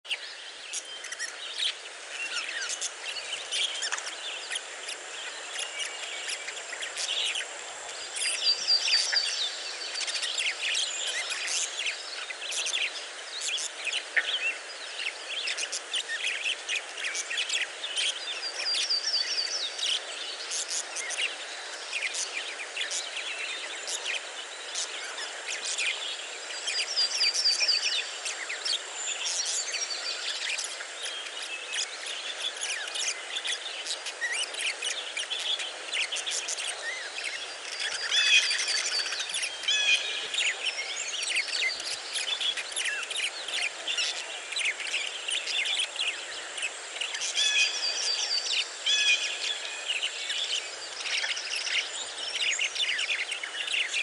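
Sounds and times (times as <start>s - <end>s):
low hiss: 0.1s - 54.0s.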